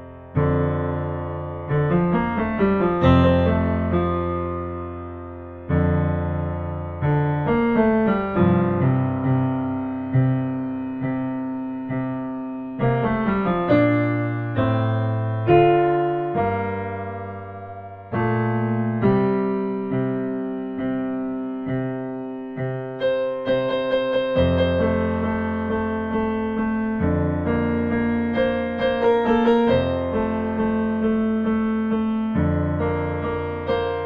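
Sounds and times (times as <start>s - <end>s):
piano playing slow chords: 0.0s - 34.0s.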